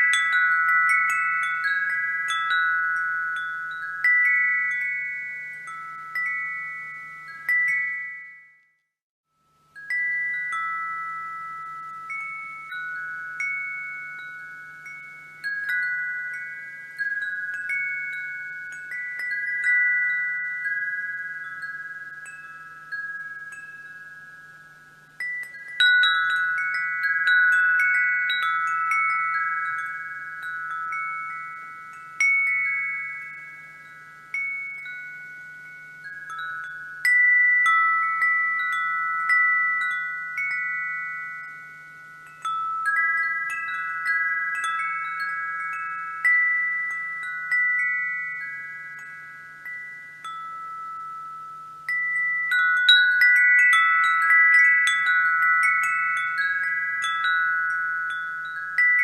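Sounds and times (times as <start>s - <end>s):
wind chime ringing: 0.0s - 59.0s.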